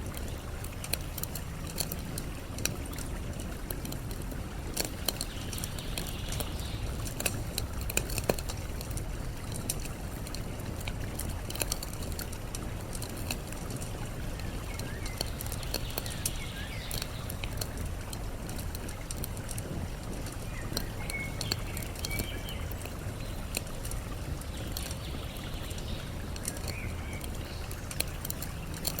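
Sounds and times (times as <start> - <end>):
campfire crackling and popping: 0.0 - 29.0
flowing water: 0.0 - 29.0.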